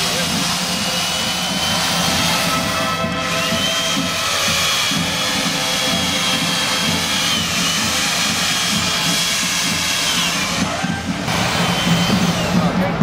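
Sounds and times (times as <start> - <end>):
chainsaw cutting ice: 0.0 - 12.7.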